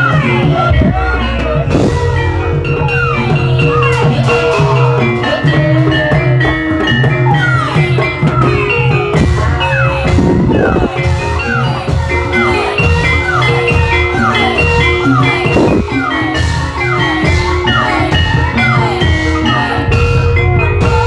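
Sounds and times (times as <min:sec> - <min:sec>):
gamelan music over loudspeakers: 0:00.0 - 0:21.0.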